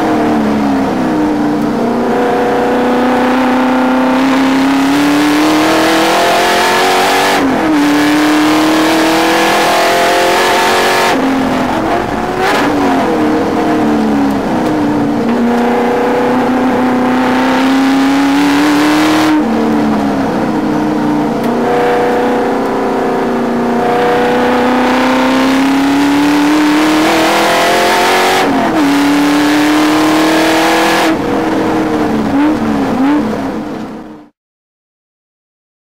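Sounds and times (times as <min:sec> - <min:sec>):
car engine at high revs: 0:00.0 - 0:34.3.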